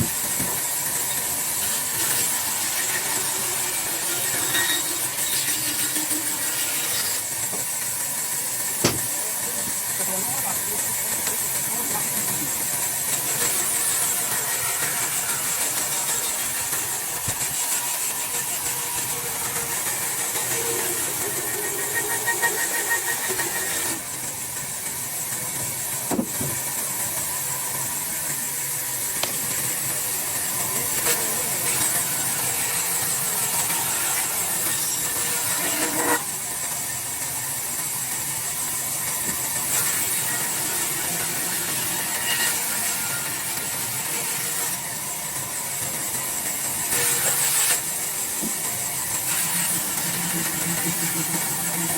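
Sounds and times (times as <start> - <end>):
power tool hissing on wood: 0.0 - 51.9.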